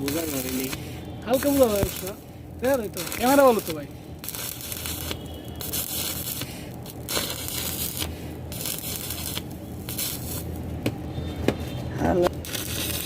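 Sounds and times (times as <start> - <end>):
welding arc crackling: 0.0 - 11.2, 12.1 - 13.0.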